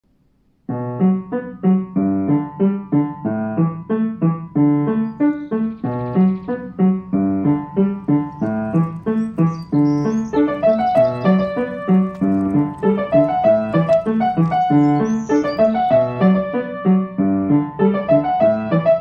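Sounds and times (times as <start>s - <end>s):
piano music: 0.7s - 19.0s.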